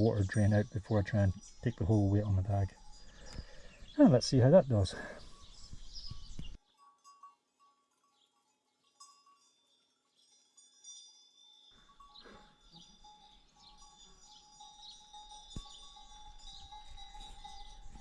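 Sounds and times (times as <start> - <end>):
sheep bells tinkling: 0.0 - 18.0.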